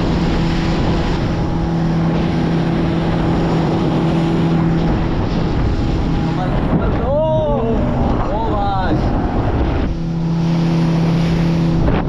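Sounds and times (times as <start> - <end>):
motorboat engine hum: 0.0 - 12.0
rushing wind: 0.0 - 12.0
water noise: 0.0 - 12.0.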